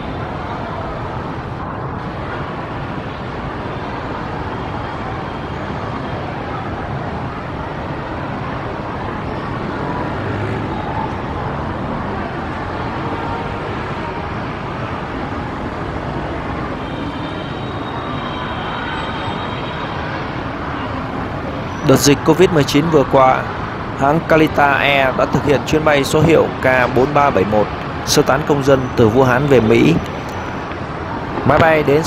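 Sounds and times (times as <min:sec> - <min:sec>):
traffic hiss: 0:00.0 - 0:32.0.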